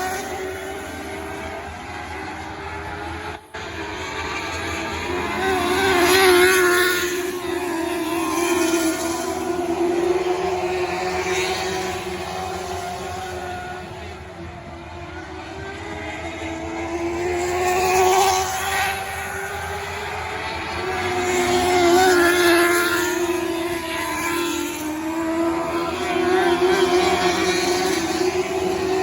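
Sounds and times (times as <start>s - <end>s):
race car engines passing: 0.0s - 29.0s.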